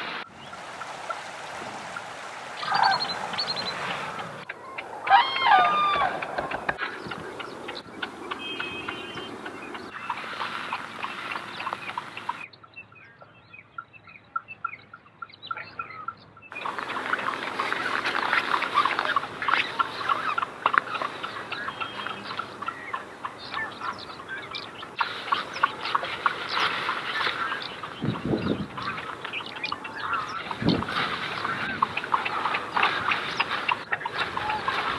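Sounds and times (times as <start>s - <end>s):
birds and farm fowl calling: 0.0s - 34.9s.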